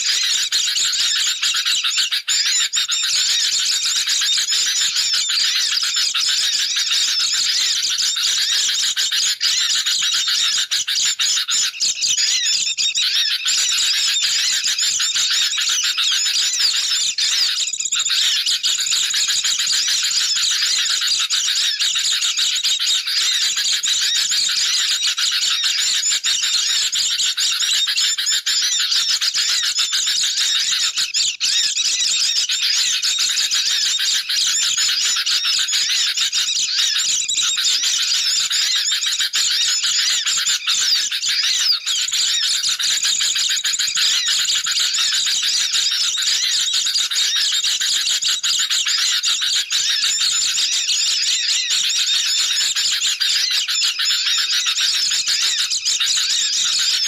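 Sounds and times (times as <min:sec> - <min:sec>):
birds chirping and twittering: 0:00.0 - 0:57.0.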